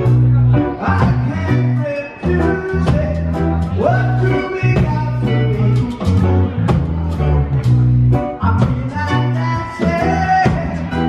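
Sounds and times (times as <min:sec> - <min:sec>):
bass guitar low notes: 0:00.0 - 0:11.0
guitar: 0:00.0 - 0:11.0
keyboard: 0:00.0 - 0:11.0
steady drum beat: 0:00.0 - 0:11.0.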